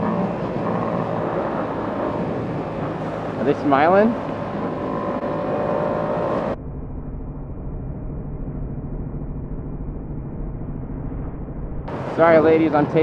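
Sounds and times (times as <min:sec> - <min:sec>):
motorcycle engine running: 0:00.0 - 0:12.9
wind noise: 0:00.0 - 0:13.0.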